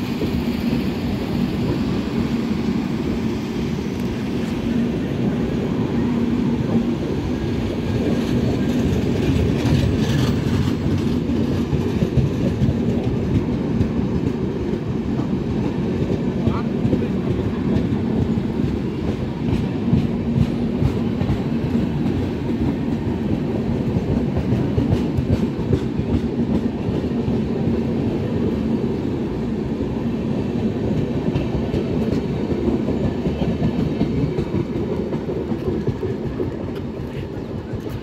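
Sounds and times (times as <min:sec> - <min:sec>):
passenger train passing: 0:00.0 - 0:38.0
wheels rumbling on rails: 0:00.0 - 0:38.0.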